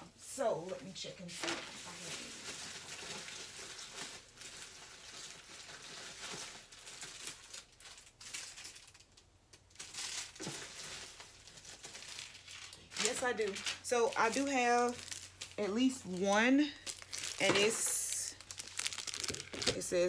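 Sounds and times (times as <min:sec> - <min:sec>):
packaging crinkling and rustling: 0:01.4 - 0:20.0.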